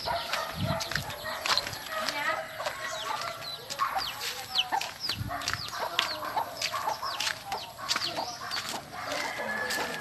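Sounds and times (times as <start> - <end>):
chickens calling: 0.0 - 10.0.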